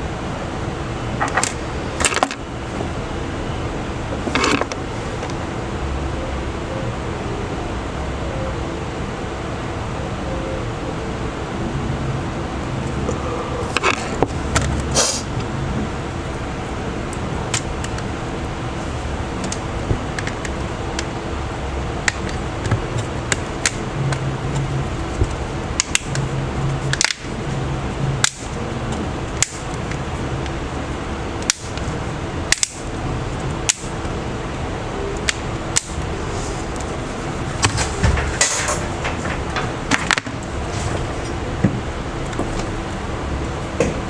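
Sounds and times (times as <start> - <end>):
fan-like hum: 0.0 - 44.0.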